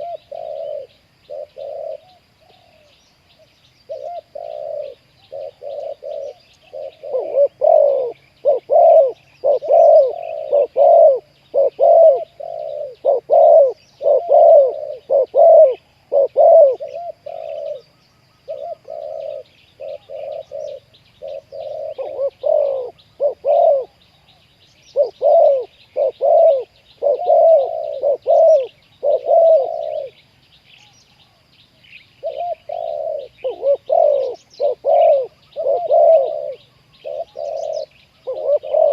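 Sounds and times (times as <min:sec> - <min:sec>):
doves cooing: 0:00.0 - 0:03.0, 0:03.8 - 0:30.2, 0:32.2 - 0:38.9
small birds chirping faintly: 0:00.0 - 0:38.9.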